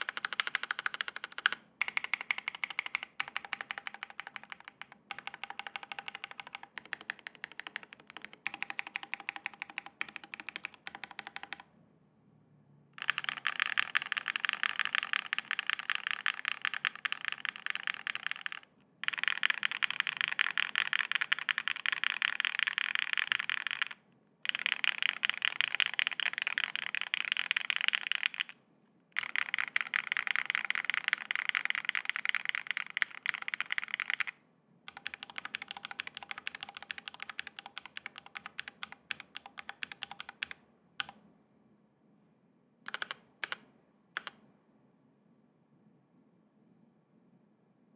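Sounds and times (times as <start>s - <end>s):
mechanical keyboard typing: 0.0s - 11.7s, 13.0s - 28.6s, 29.2s - 41.2s, 42.9s - 44.4s.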